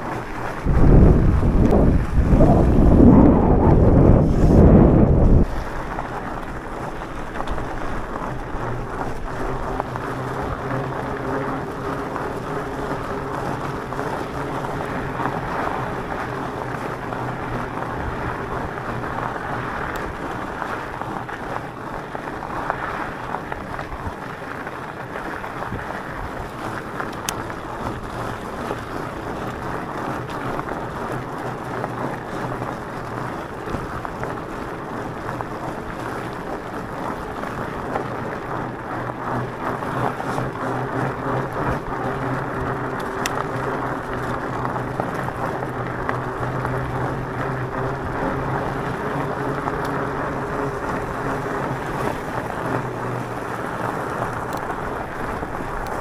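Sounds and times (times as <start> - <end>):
faint motor hum: 0.0 - 56.0
tyre and wind noise: 0.0 - 56.0.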